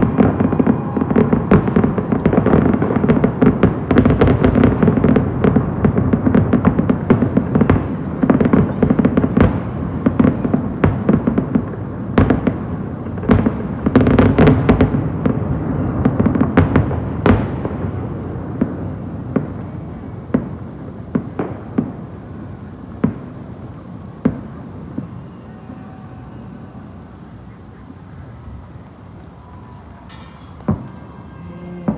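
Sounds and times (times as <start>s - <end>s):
fireworks bangs: 0.0s - 31.9s
fireworks rumble: 0.0s - 31.9s.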